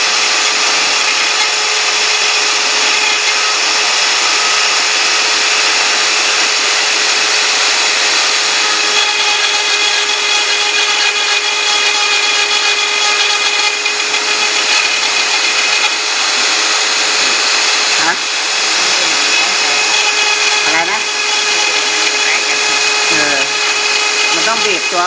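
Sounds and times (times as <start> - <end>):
router spindle milling: 0.0 - 25.0.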